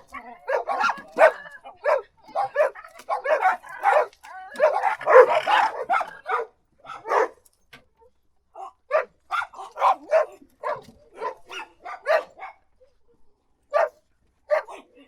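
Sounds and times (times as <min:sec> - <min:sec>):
dog barking: 0:00.3 - 0:07.4, 0:08.6 - 0:12.7, 0:13.7 - 0:14.9.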